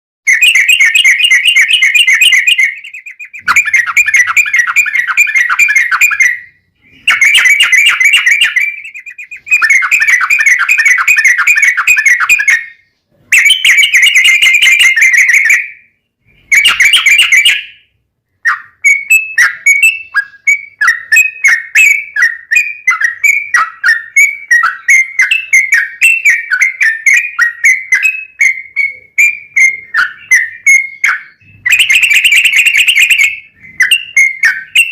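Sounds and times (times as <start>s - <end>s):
bird singing rolling trills: 0.3s - 34.9s.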